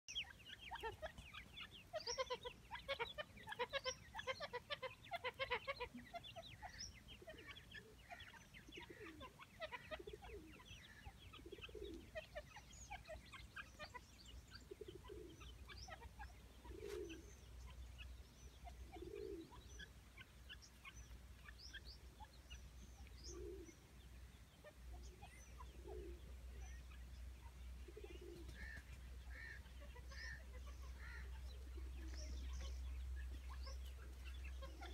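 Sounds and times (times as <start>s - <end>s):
francolin clucks: 0.1s - 34.9s.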